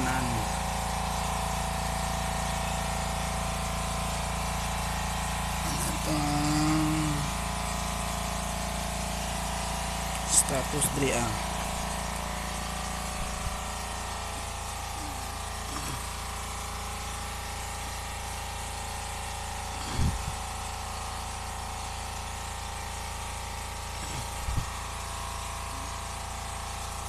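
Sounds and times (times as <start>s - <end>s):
machine hum with low rumble: 0.0s - 27.0s.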